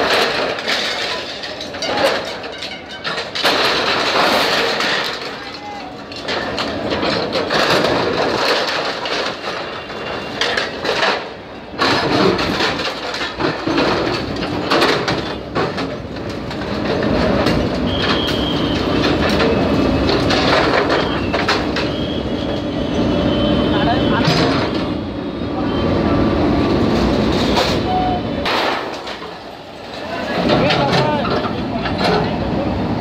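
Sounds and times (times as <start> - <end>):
metal crashing and scraping: 0.0 - 22.6, 26.7 - 32.5
diesel engine under load: 0.0 - 33.0.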